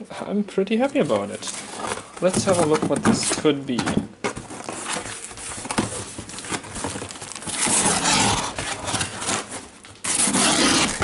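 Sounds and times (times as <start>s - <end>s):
packing paper rustling: 0.8s - 11.0s.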